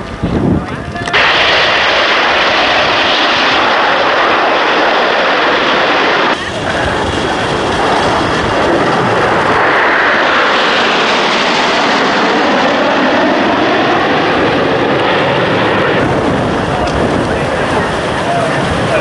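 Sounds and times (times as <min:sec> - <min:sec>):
propeller aircraft engines taxiing: 0:00.0 - 0:19.0.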